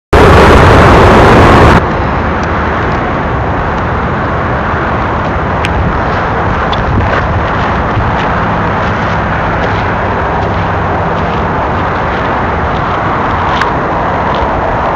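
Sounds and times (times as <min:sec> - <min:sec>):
distant train rumble: 0:00.2 - 0:14.9.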